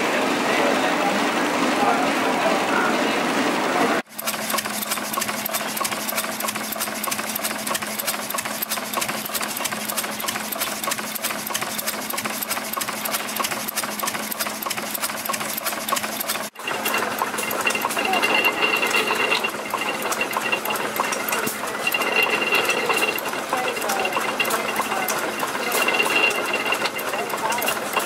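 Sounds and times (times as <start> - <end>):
stationary engine clattering: 0.0 - 28.0
steady engine hum: 0.0 - 28.0.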